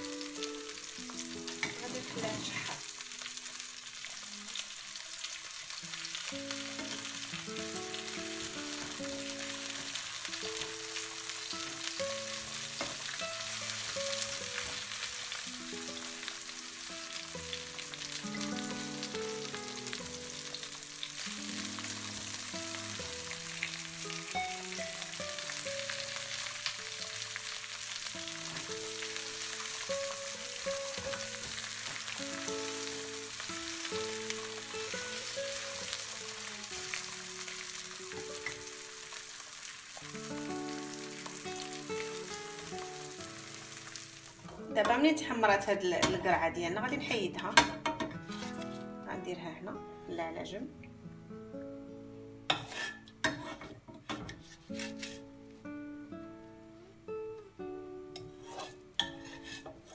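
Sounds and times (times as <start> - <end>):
courgette sizzling in oil: 0.0 - 49.5, 50.1 - 59.9.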